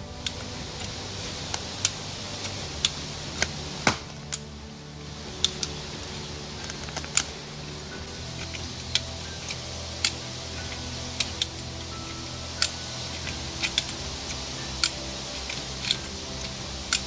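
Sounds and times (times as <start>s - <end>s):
background music with held tones: 0.0s - 17.0s.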